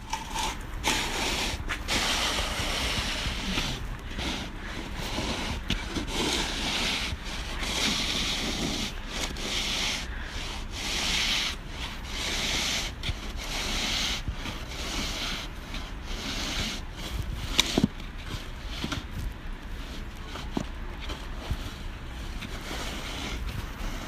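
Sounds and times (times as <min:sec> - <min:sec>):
scraping and crunching through snow: 0:00.0 - 0:24.0.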